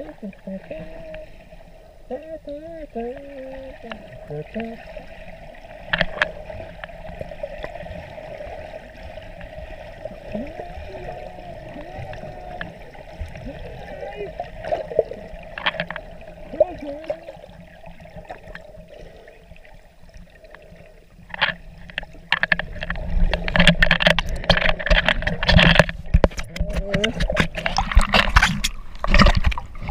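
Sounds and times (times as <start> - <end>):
bubbling and splashing: 0.0 - 29.9
muffled underwater hum: 0.0 - 29.9.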